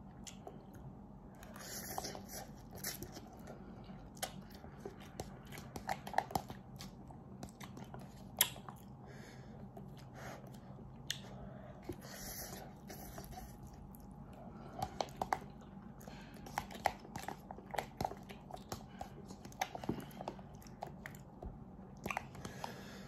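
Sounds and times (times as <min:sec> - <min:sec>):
faint low hum: 0:00.0 - 0:23.0
person chewing noodles: 0:00.0 - 0:23.0.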